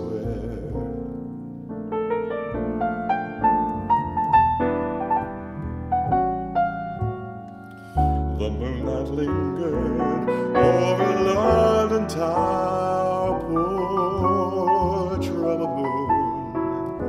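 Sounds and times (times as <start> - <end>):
jazz piano melody: 0.0 - 17.0
upright bass: 0.0 - 17.0.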